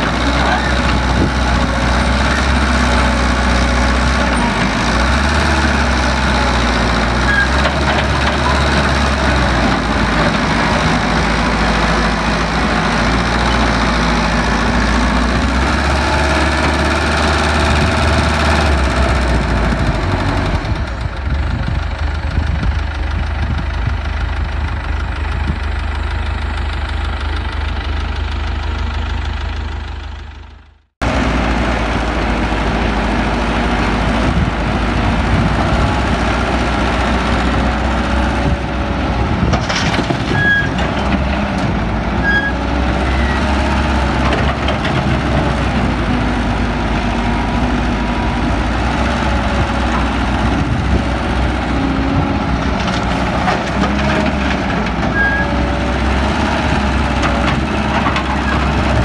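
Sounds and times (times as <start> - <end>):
heavy diesel engine hum: 0.0 - 59.0.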